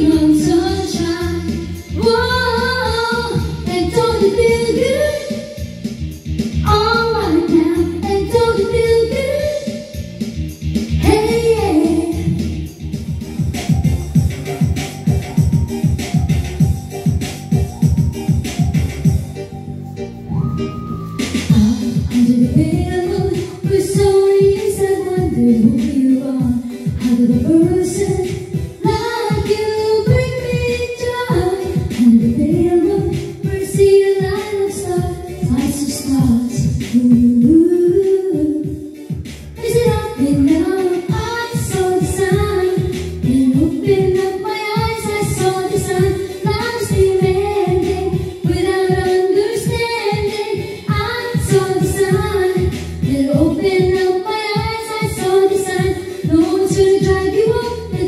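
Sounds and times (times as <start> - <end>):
woman singing into microphone: 0.0 - 5.7, 6.6 - 10.1, 11.0 - 12.6, 20.5 - 58.0
backing music with steady beat: 0.0 - 58.0.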